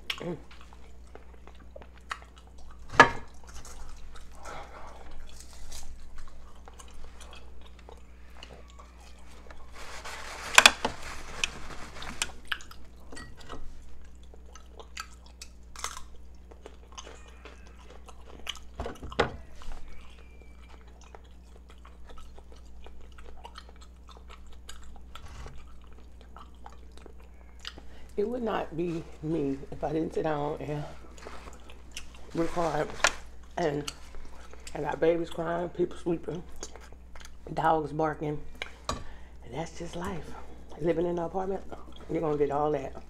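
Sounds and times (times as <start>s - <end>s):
chewing and crunching: 0.0s - 43.0s.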